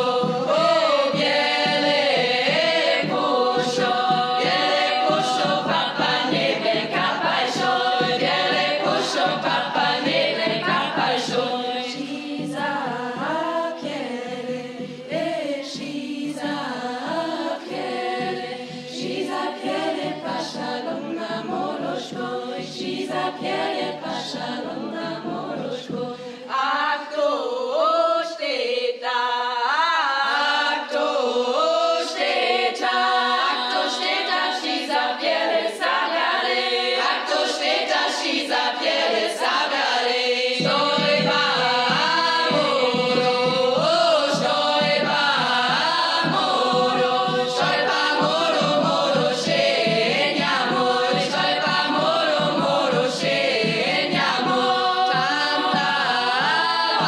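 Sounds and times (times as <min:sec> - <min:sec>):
frame drum beat: 0:00.0 - 0:26.2, 0:32.2 - 0:57.0
choir of women singing: 0:00.0 - 0:57.0.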